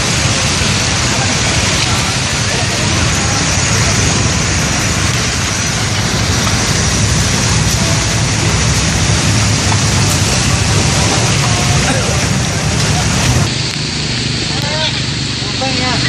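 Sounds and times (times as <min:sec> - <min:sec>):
loud rushing noise: 0:00.0 - 0:16.0.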